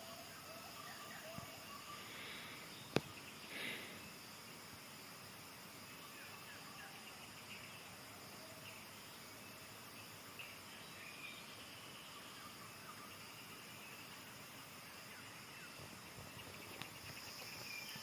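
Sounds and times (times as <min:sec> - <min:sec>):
soft bird chirps: 0:00.0 - 0:04.7, 0:05.8 - 0:18.0
insect drone: 0:00.0 - 0:18.0.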